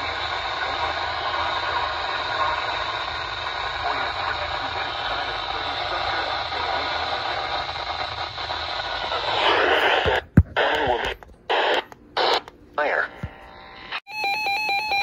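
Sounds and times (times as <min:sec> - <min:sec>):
radio static hiss: 0:00.0 - 0:14.0
short radio sound bursts: 0:00.1 - 0:14.0.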